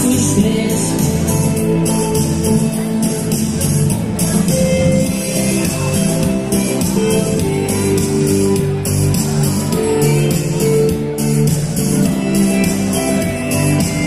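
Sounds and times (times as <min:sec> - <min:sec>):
country music with guitar: 0:00.0 - 0:14.0
steady drum beat: 0:00.0 - 0:14.0.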